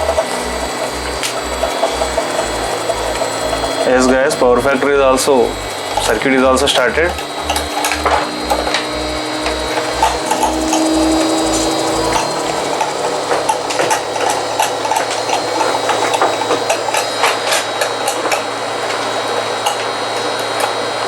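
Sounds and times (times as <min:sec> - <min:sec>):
air conditioner unit rattling: 0:00.0 - 0:21.0
low pulsing throb: 0:00.0 - 0:21.0.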